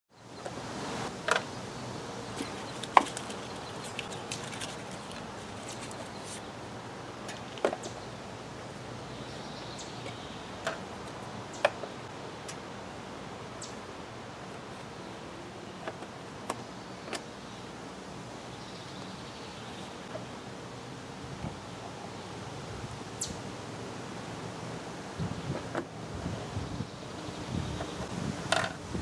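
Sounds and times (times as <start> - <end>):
outdoor background noise: 0.1 - 29.0.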